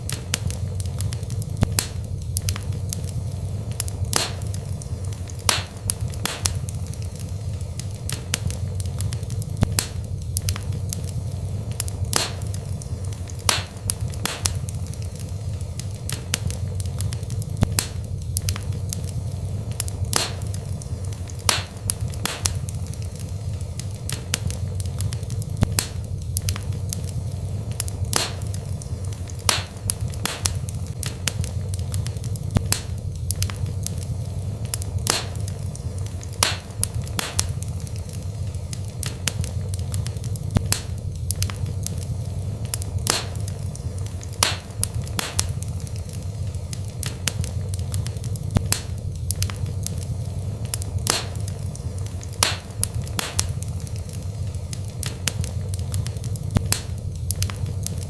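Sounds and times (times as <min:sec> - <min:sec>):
burning wood crackling and popping: 0:00.0 - 0:58.0
low rumble of flames: 0:00.0 - 0:58.0.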